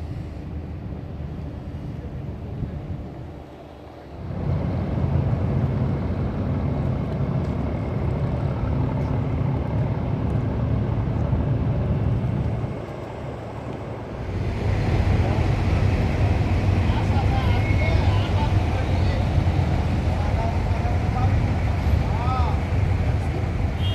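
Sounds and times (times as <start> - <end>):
ferry engines humming: 0.0 - 23.9
rushing noise: 0.0 - 23.9.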